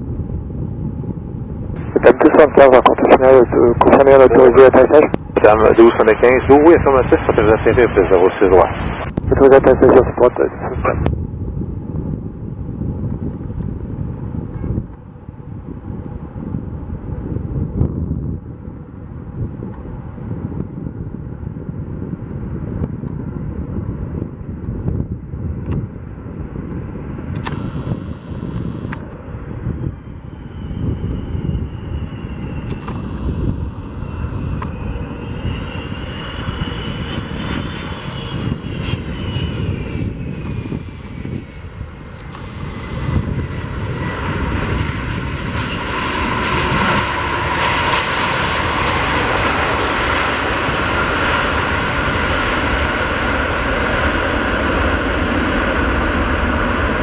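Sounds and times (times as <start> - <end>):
jet airliner rumble and whine: 0.0 - 57.0.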